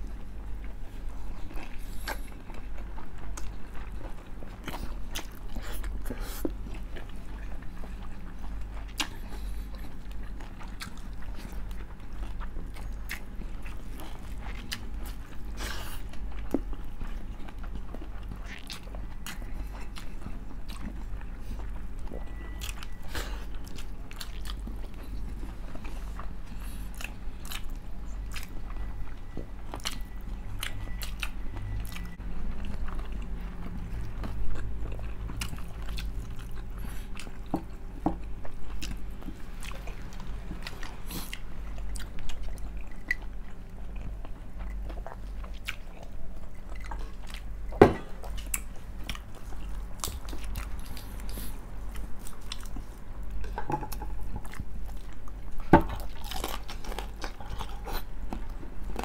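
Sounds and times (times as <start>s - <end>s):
chewing crispy pork skin: 0.0s - 59.0s.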